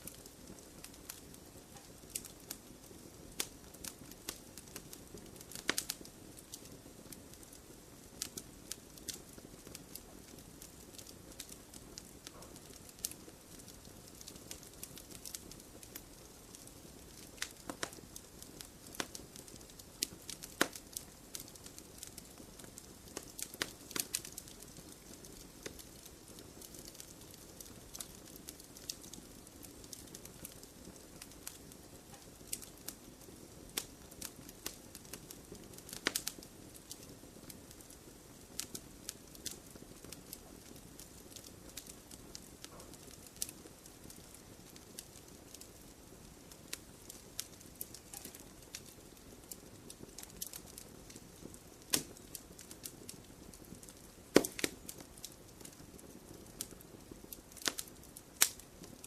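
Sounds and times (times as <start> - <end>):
campfire hiss: 0.0 - 59.0
fire crackles and pops: 0.0 - 59.0.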